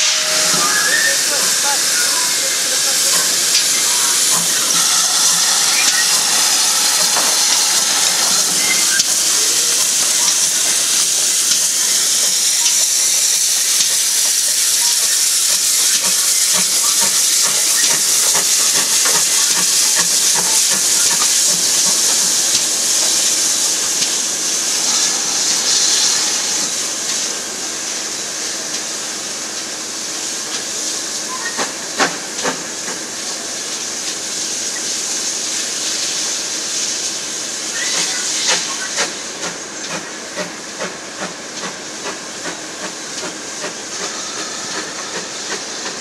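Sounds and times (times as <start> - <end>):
steam locomotive hissing: 0.0 - 46.0.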